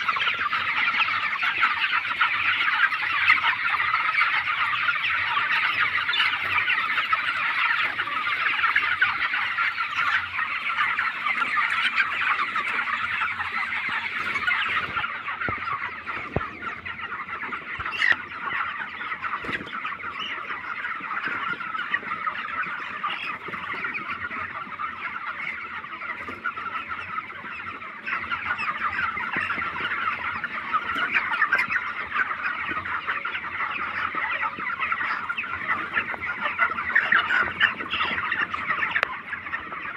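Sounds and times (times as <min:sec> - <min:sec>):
chickens chirping and clucking: 0:00.0 - 0:39.9.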